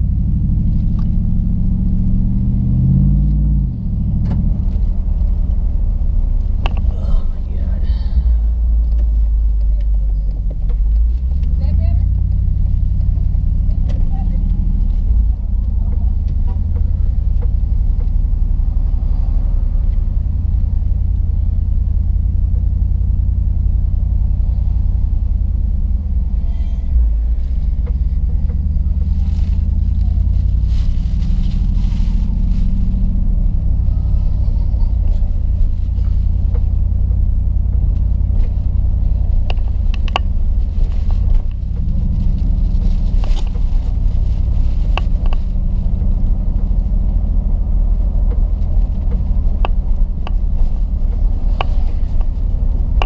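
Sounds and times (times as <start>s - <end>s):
car engine deep rumble: 0.0s - 53.0s.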